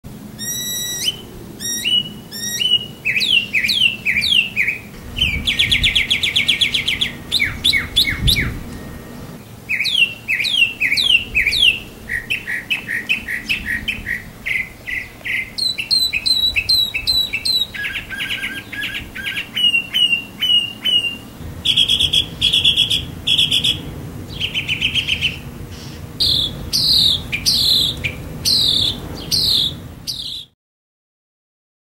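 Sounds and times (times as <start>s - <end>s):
mockingbird singing: 0.3s - 30.5s.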